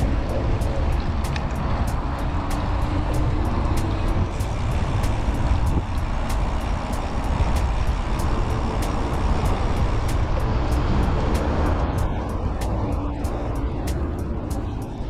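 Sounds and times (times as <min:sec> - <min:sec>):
bike tyres rolling on pavement: 0:00.0 - 0:15.0
light ticks: 0:00.0 - 0:15.0
wind rushing over microphone: 0:00.0 - 0:15.0.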